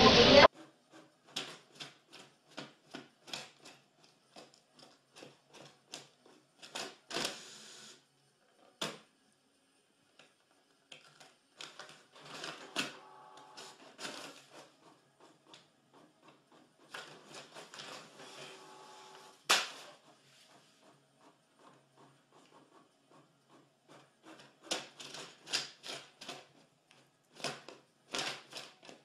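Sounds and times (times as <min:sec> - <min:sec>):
printer mechanical whirring: 0:00.0 - 0:08.1, 0:11.6 - 0:29.0.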